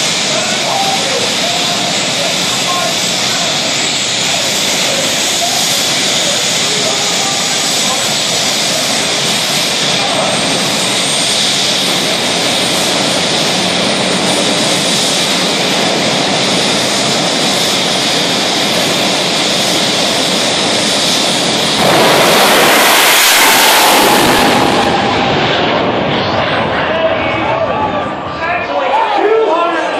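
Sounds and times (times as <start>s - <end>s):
jet engine full thrust blast: 0.0s - 29.0s
jet turbine engine whine: 0.0s - 29.9s.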